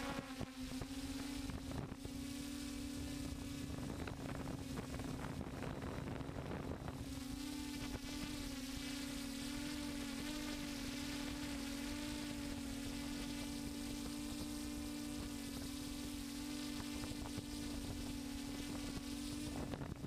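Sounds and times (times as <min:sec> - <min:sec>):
drone motors and propellers buzzing: 0:00.0 - 0:20.0.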